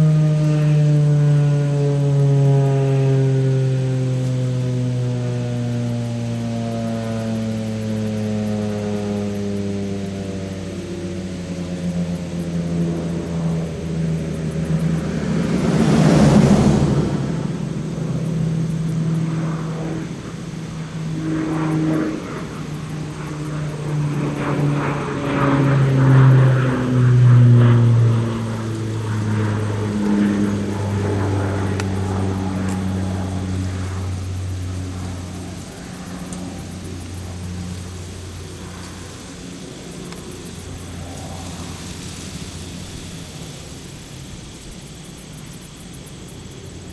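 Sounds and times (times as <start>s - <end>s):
warning siren winding down: 0.0s - 43.8s.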